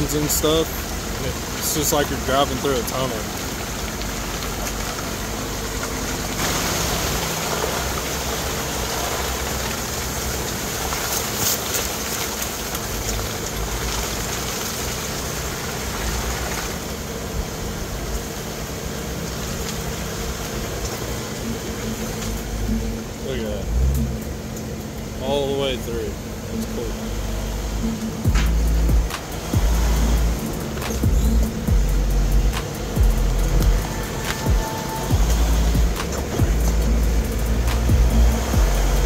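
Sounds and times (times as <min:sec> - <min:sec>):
car engine low rumble: 0:00.0 - 0:39.0
hiss of tyres and brush: 0:00.0 - 0:39.0.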